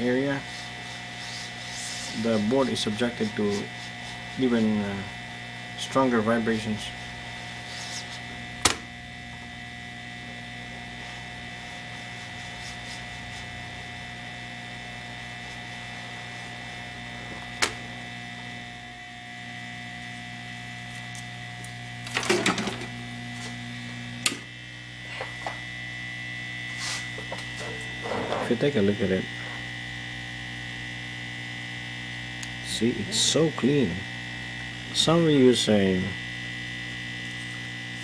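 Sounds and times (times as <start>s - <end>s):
heat gun humming: 0.0s - 38.0s.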